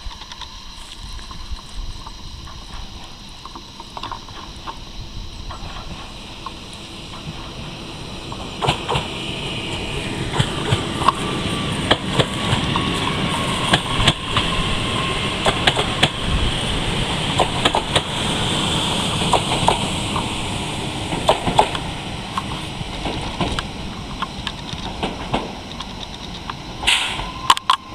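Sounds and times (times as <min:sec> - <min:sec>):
train wheels rumbling on rails: 0:00.0 - 0:27.9
wheels clacking over rail joints: 0:01.2 - 0:27.9.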